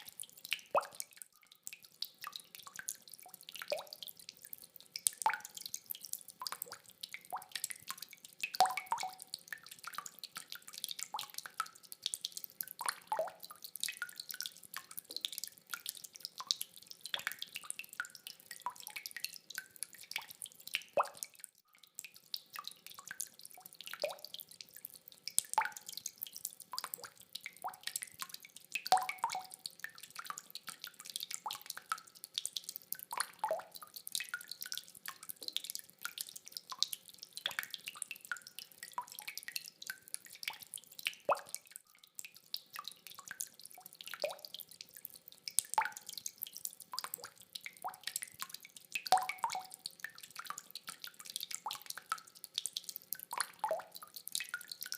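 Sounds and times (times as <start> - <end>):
rain drops splashing: 0.0 - 54.9.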